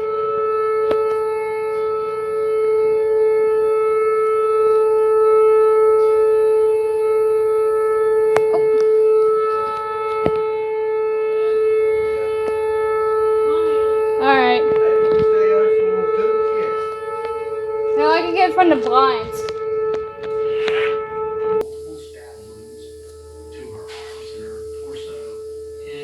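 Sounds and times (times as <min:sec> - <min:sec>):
warning siren steady tone: 0:00.0 - 0:26.0.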